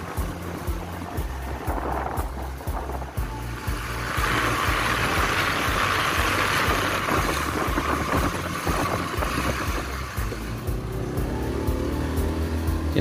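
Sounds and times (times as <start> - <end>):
wind buffeting thumps: 0.0 - 11.2
wind rushing over microphone: 0.0 - 11.2
motorbike engine rumble: 0.0 - 13.0.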